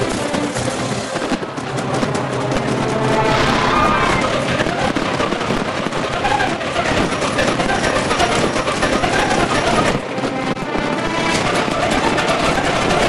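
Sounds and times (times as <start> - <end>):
sped-up fireworks rush: 0.0 - 13.0.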